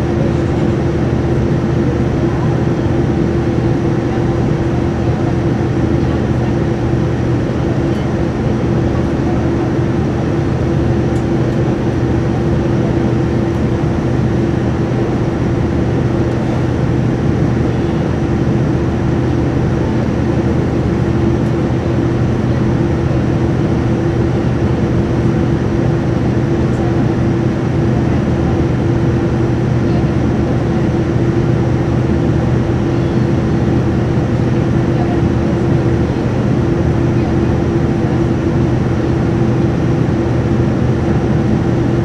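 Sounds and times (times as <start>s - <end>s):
constant low hum: 0.0s - 42.0s
jet engines droning: 0.0s - 42.0s.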